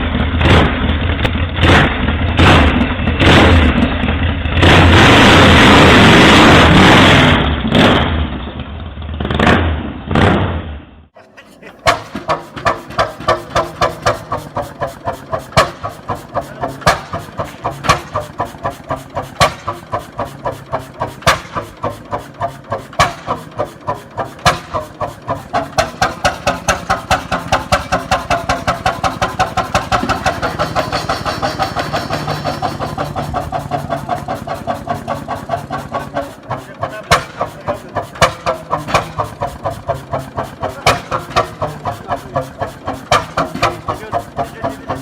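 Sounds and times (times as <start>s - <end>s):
old engine running: 0.0s - 9.6s, 11.2s - 45.0s
engine bang: 0.0s - 10.9s, 11.8s - 45.0s.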